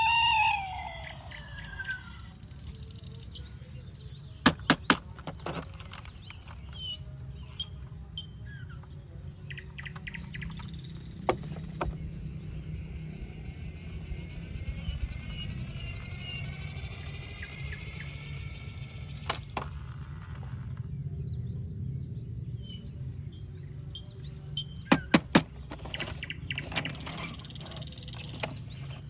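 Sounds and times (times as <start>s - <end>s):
low steady rumble: 0.0s - 24.9s
small birds chirping: 0.0s - 29.0s.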